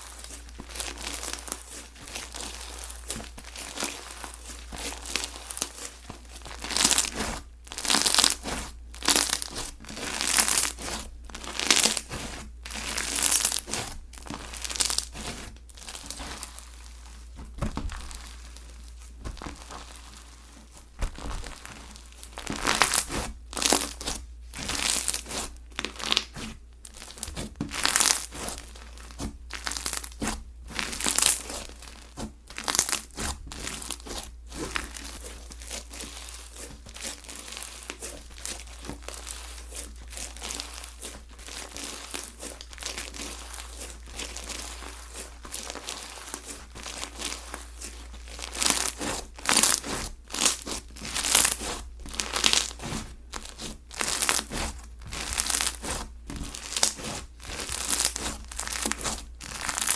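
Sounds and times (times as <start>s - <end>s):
slime crackling and popping: 0.0s - 59.9s.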